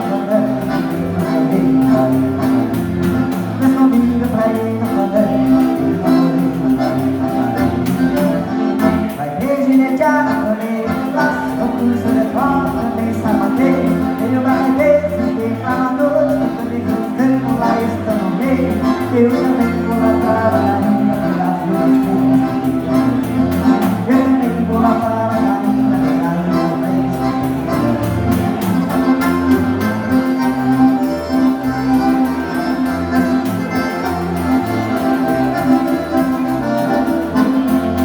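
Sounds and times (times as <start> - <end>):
accordion dance-band music: 0.0 - 38.0.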